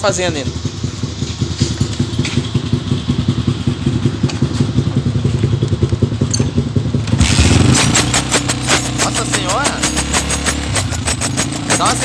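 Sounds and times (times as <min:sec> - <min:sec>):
small motorcycle engine idling: 0:00.0 - 0:12.0.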